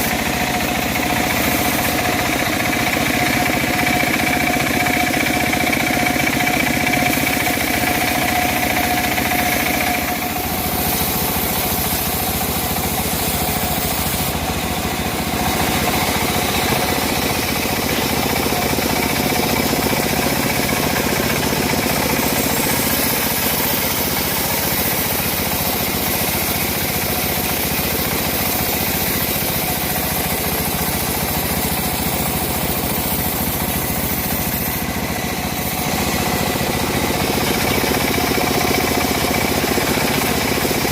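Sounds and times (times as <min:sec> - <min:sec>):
bandsaw mill engine running: 0:00.0 - 0:40.9
high steady whine: 0:00.0 - 0:40.9.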